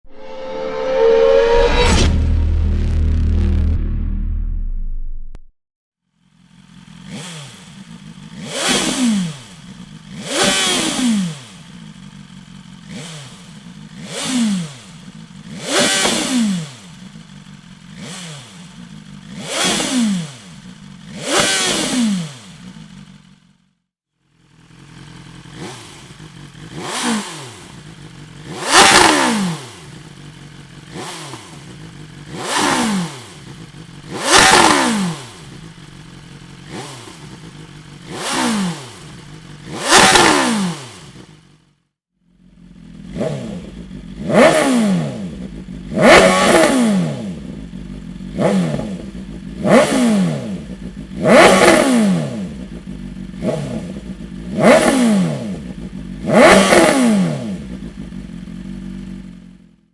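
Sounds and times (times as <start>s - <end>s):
motorcycle engine revving: 0.0s - 4.8s, 6.1s - 59.9s.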